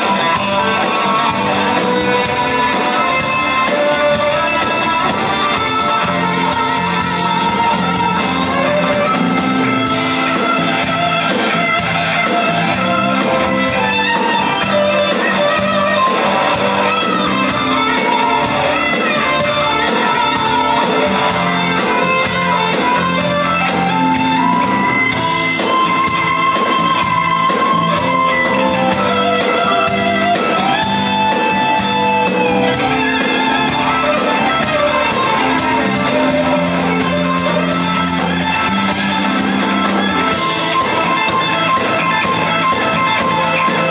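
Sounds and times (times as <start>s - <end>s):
blues-rock band playing: 0.0s - 43.9s
lead electric guitar: 0.0s - 43.9s.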